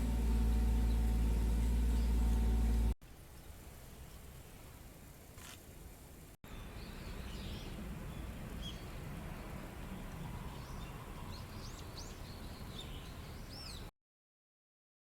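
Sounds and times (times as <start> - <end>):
songbirds chirping: 0.0 - 4.8, 6.5 - 13.9.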